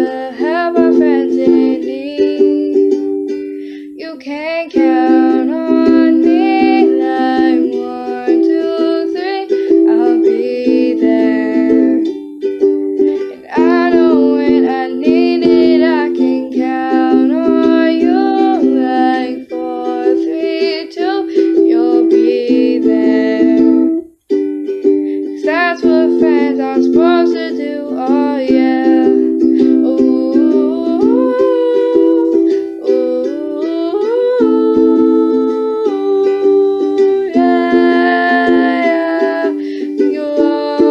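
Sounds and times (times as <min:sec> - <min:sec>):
girl singing: 0:00.0 - 0:40.9
strummed ukulele: 0:00.0 - 0:40.9.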